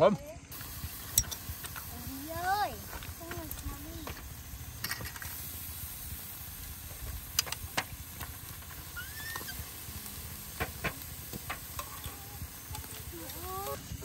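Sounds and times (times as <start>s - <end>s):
meat sizzling on a grill: 0.4s - 14.0s.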